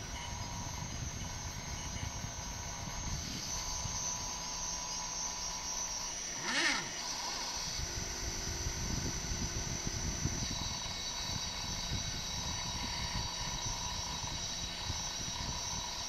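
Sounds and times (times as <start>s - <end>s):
stepper motors whining: 0.0s - 16.0s.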